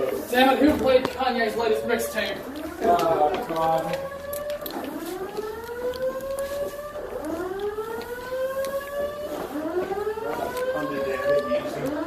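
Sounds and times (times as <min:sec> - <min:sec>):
fire alarm whoop tone: 0:00.3 - 0:12.0.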